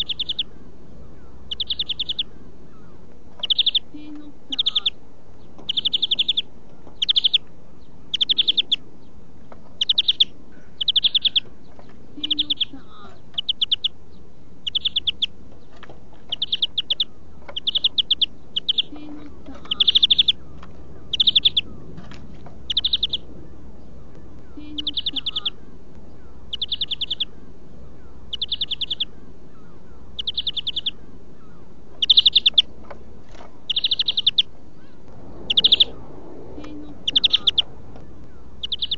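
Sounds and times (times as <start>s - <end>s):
finch singing rapid trills: 0.0s - 38.9s.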